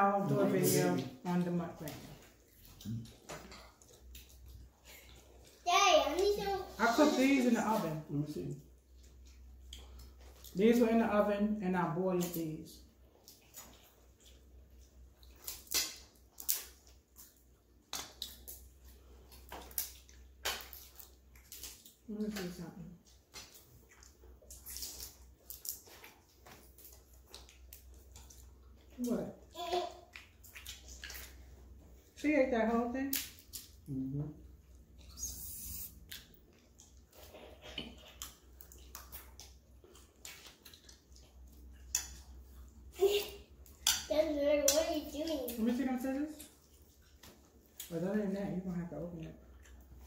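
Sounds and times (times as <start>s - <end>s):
chewing: 0.3s - 7.3s, 8.5s - 10.8s, 12.2s - 32.2s, 33.1s - 44.1s, 44.8s - 48.0s, 49.2s - 50.0s.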